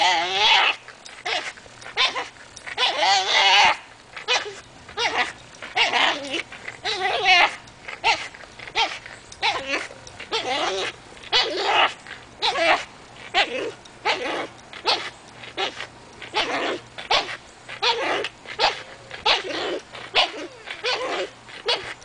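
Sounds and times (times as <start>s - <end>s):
dog whining and grumbling: 0.0s - 22.0s.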